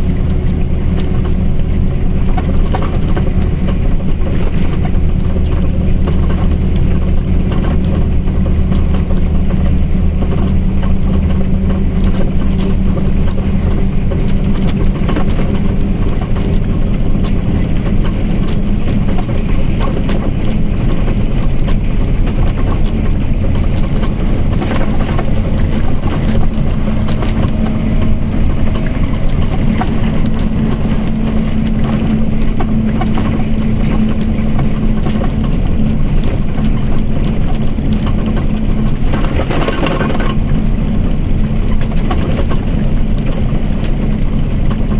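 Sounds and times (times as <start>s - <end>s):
body rattling: 0.0s - 44.9s
bus engine drone: 0.0s - 44.9s.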